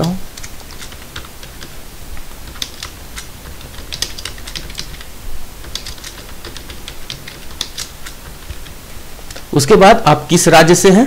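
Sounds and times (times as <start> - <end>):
computer keyboard typing: 0.0 - 9.6.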